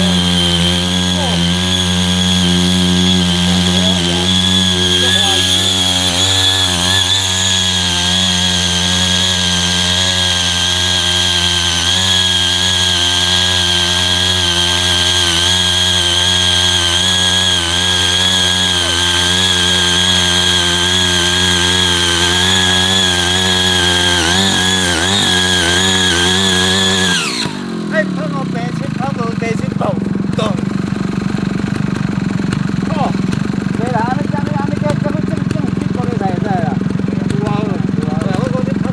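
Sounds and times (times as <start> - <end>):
high-pitched engine whine: 0.0 - 38.9
small tiller engine running: 0.0 - 38.9.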